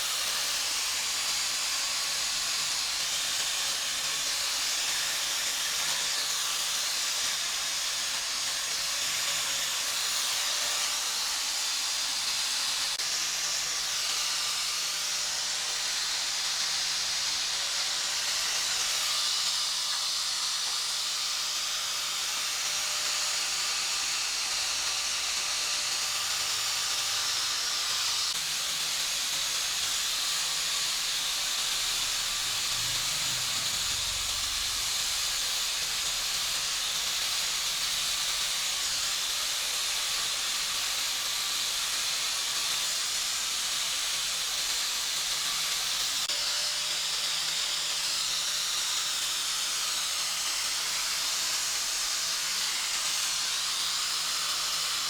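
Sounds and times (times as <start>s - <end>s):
compressed air hiss from air tool: 0.0s - 55.0s.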